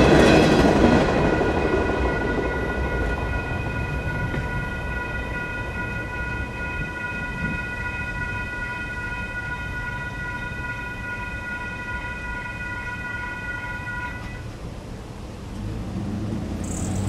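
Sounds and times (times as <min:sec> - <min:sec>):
railroad crossing bells ringing: 0:00.0 - 0:14.7, 0:16.6 - 0:17.0.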